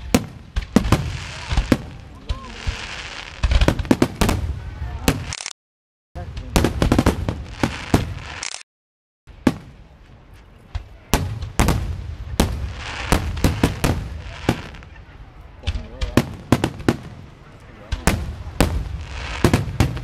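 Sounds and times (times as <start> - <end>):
fireworks bangs and crackles: 0.0 - 5.5, 6.2 - 8.6, 9.3 - 20.0.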